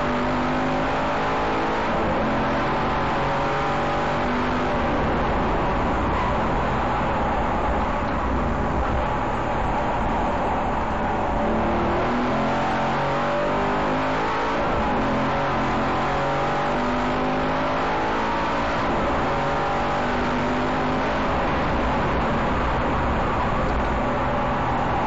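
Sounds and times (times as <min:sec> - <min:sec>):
racing car engine revving: 0:00.0 - 0:25.0
road and wind noise: 0:00.0 - 0:25.0.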